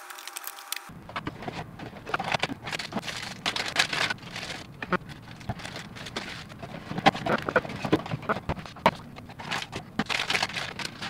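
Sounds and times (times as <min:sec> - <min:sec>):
plastic bag crinkling: 0:00.0 - 0:08.8, 0:09.4 - 0:11.0.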